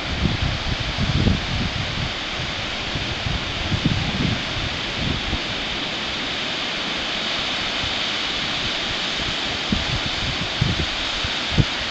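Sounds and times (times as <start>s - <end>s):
surf breaking on beach: 0.0s - 11.9s
wind gusts on microphone: 0.0s - 11.9s.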